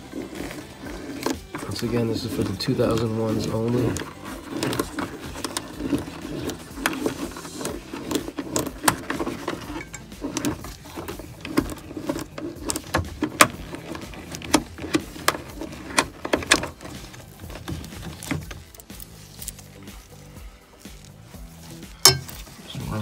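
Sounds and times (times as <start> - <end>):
plastic parts clicking and tapping: 0.0 - 20.2.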